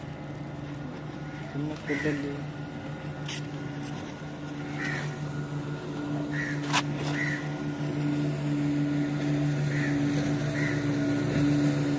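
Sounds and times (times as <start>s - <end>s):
boat engine running: 0.0s - 11.9s.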